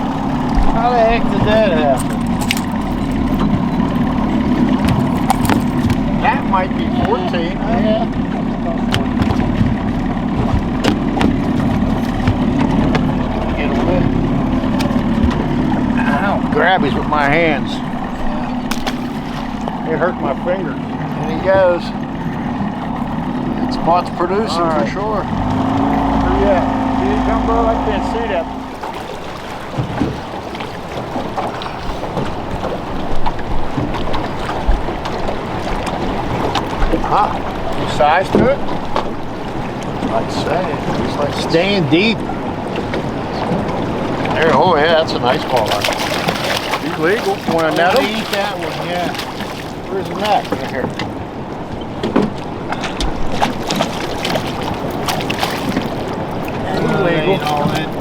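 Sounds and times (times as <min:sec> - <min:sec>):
sharp splashes and knocks: 0:00.0 - 0:24.0, 0:24.6 - 0:58.0
boat on river: 0:00.0 - 0:58.0
water wash: 0:00.0 - 0:58.0.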